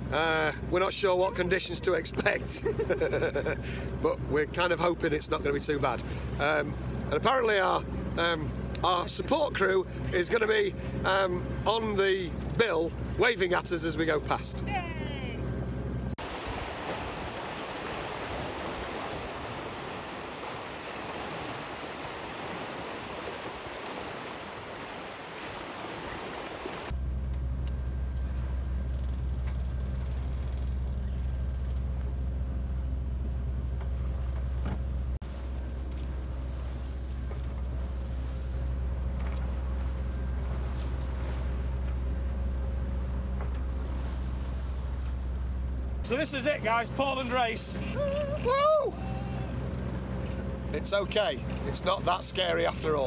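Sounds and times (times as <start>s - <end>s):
boat engine droning: 0.0s - 53.0s
sea washing along hull: 0.0s - 53.0s.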